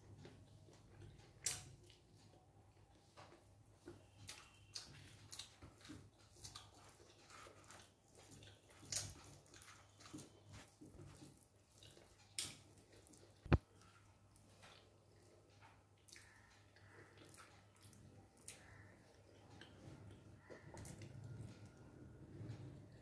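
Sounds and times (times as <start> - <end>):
wet chewing clicks: 3.8 - 23.0.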